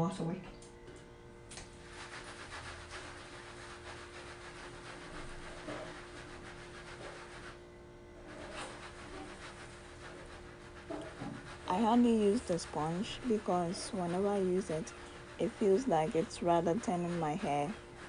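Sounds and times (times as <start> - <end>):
sponge scrubbing hair: 1.5 - 18.0.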